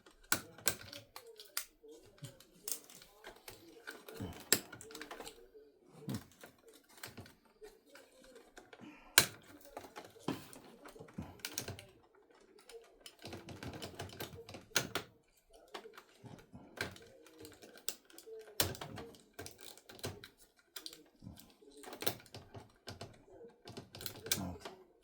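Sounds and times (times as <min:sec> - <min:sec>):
plastic clicks and knocks: 0:00.0 - 0:05.4, 0:06.1 - 0:24.8.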